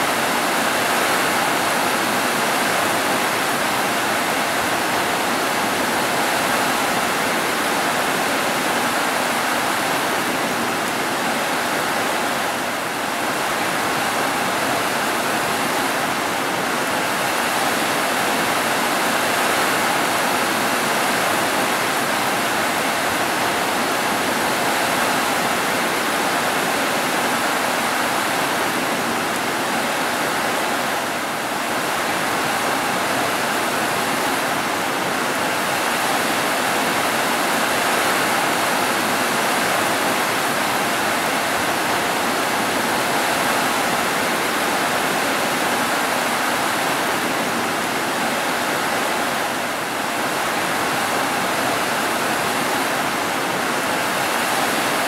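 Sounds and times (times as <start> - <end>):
heavy rain on roofs: 0.0 - 55.0.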